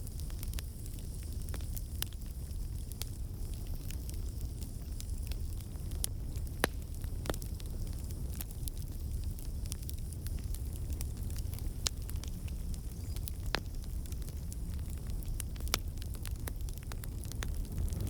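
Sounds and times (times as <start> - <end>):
fire rumbling in a fireplace: 0.0 - 18.0
wood fire popping and crackling: 0.0 - 18.0.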